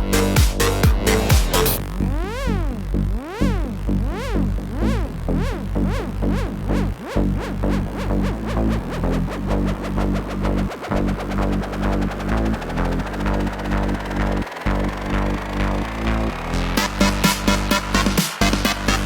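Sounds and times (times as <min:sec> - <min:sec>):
electronic music with synth sweeps: 0:00.0 - 0:19.0.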